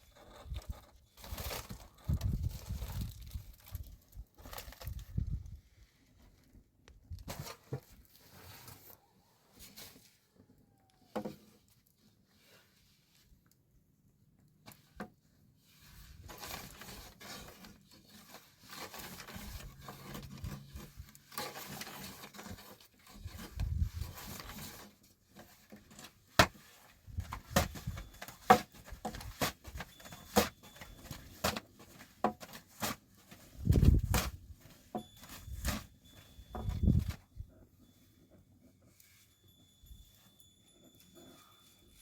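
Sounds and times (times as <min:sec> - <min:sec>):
rustling and scraping: 0:00.0 - 0:13.6, 0:14.6 - 0:42.0.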